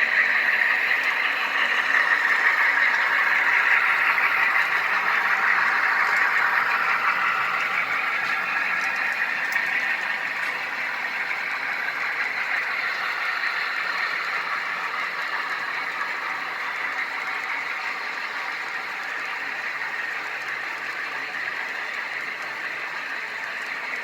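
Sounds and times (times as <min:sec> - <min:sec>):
model train running: 0:00.0 - 0:24.0.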